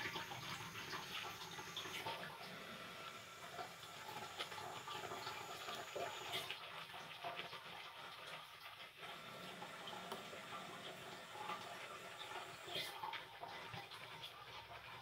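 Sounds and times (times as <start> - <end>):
water trickling and dripping in sink: 0.0 - 15.0.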